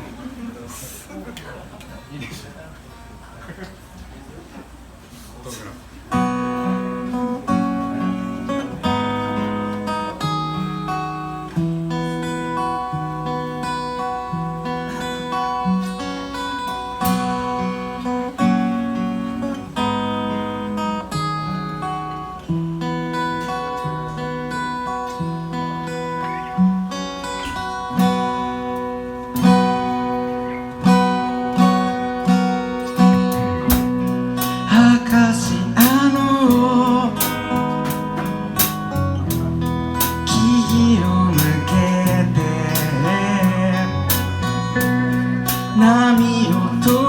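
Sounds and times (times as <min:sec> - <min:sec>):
acoustic guitar strumming: 0:06.1 - 0:47.0.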